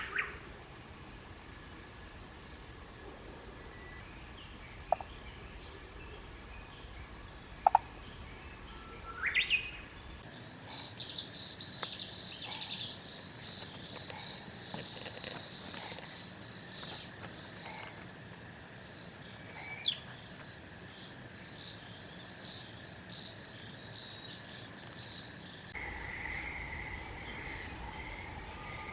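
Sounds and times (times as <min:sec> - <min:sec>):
frogs chattering trills: 0:04.8 - 0:28.9.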